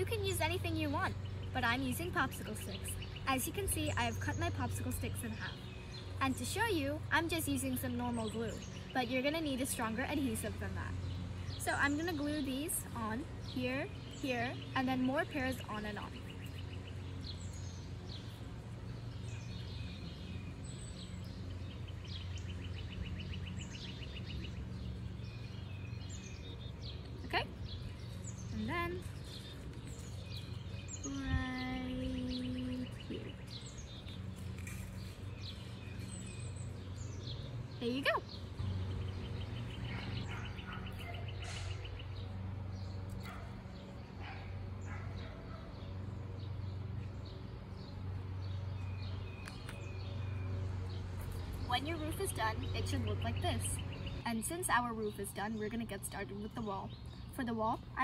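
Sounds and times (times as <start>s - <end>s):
low outdoor rumble: 0.0s - 58.0s
songbirds chirping and singing: 0.0s - 58.0s.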